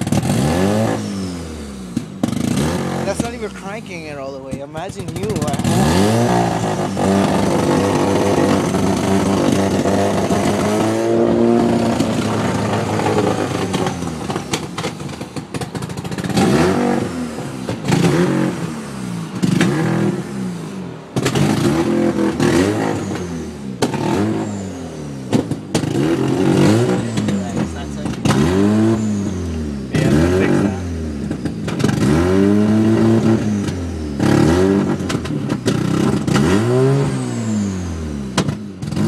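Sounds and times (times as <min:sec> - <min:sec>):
rotary engine revving: 0:00.0 - 0:39.0.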